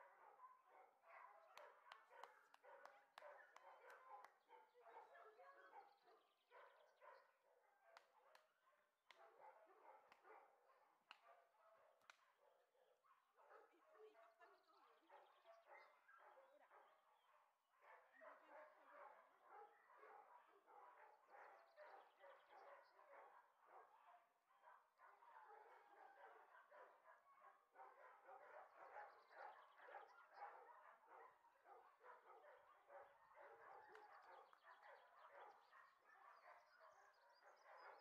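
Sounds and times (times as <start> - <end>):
dogs barking and yapping: 0.0 - 8.5, 9.1 - 11.5, 14.8 - 38.0.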